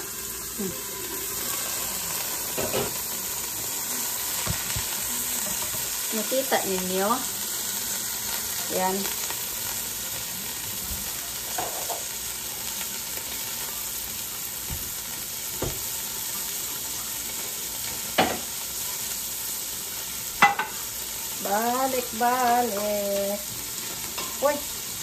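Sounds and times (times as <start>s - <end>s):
fish frying in oil: 0.0s - 25.0s.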